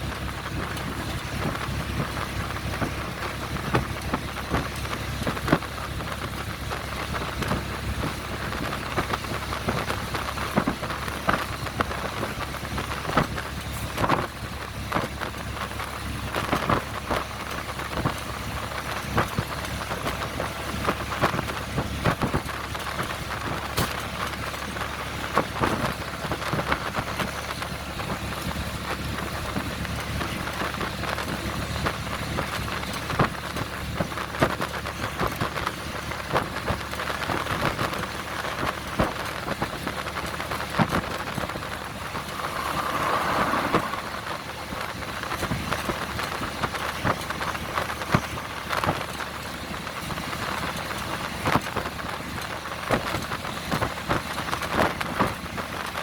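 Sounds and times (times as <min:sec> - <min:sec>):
train clicks and rattles: 0:00.0 - 0:56.0
train rumbling: 0:00.0 - 0:56.0.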